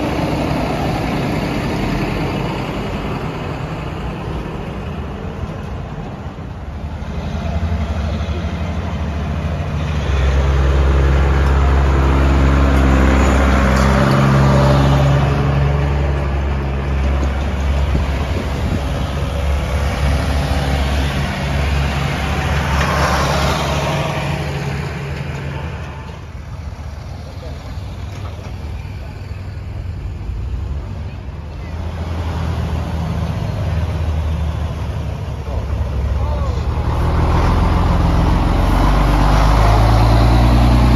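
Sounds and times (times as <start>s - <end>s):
tractor engines idling: 0.0s - 40.9s
vehicle passing: 6.5s - 40.9s.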